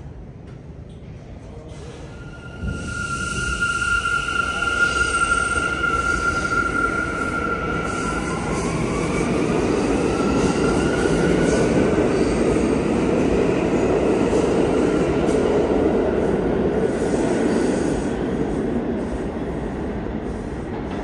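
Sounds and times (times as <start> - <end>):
rumble of wheels on rail: 0.0 - 21.0.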